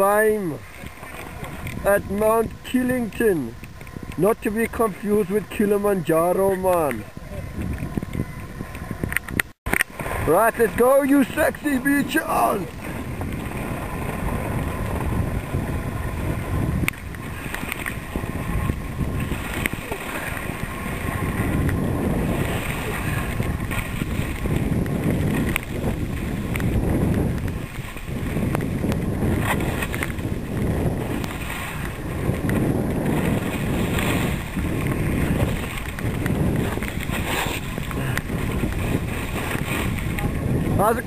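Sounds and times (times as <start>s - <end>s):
skis scraping over snow: 0.0s - 41.0s
wind buffeting microphone: 0.0s - 41.0s.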